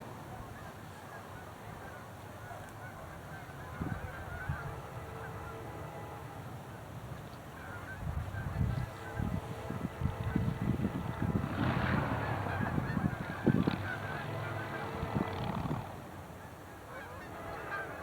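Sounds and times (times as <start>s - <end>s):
geese honking: 0.4s - 6.8s, 7.4s - 18.0s.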